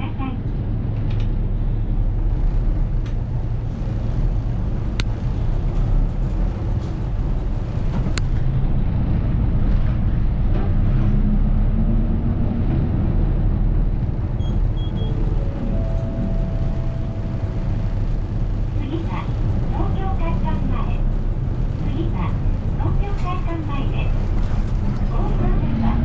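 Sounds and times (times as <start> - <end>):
large vehicle engine rumbling: 0.0 - 26.0.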